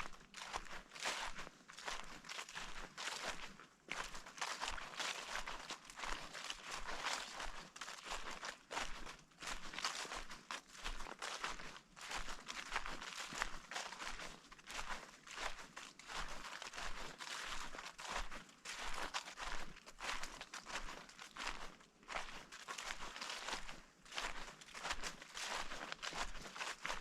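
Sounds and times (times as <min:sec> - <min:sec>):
footsteps crunching on forest floor: 0:00.0 - 0:27.0.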